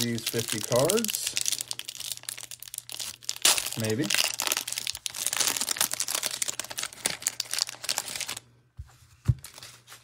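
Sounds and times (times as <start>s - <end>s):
cellophane wrapper crinkling: 0.0s - 8.5s.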